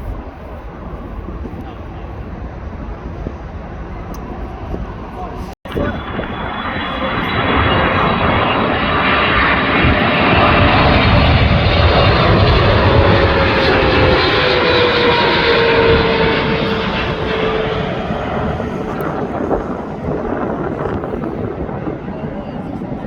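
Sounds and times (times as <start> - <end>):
jet airplane rumble passing: 0.0 - 23.0
jet engine whine falling in pitch: 0.0 - 23.0.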